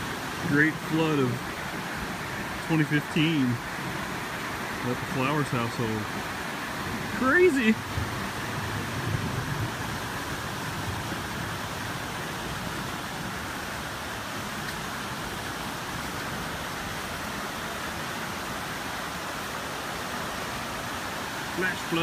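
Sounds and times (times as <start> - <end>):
floodwater rushing in creek: 0.0 - 22.0.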